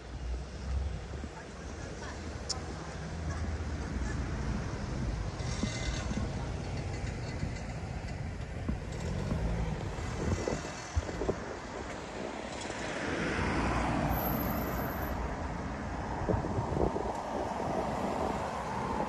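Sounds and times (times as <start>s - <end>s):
road vehicle rumble: 0.0s - 19.0s.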